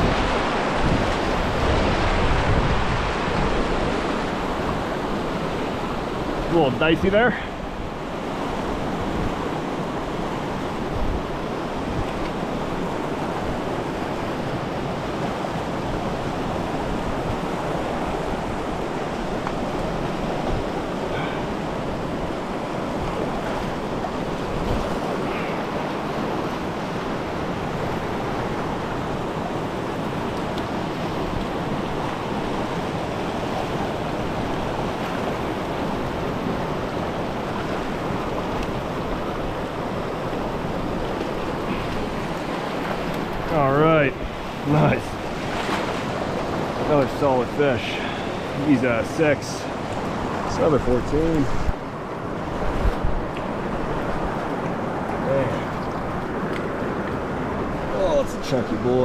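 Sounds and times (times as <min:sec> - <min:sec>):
wind on microphone: 0:00.0 - 0:46.9, 0:49.7 - 0:58.0
river rapids rushing: 0:00.0 - 0:59.0.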